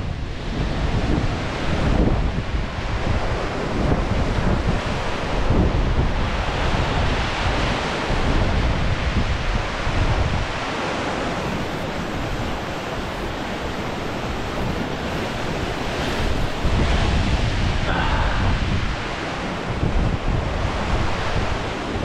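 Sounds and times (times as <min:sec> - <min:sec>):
ocean waves breaking on rocks: 0:00.0 - 0:22.0
wind buffeting microphone: 0:00.0 - 0:22.0.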